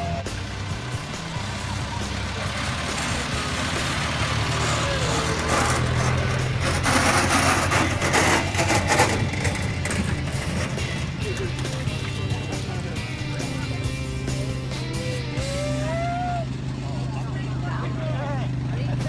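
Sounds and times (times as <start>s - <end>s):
cart wheels rattling on tarmac: 0.0s - 19.0s
vehicle engine running slowly: 0.0s - 19.0s.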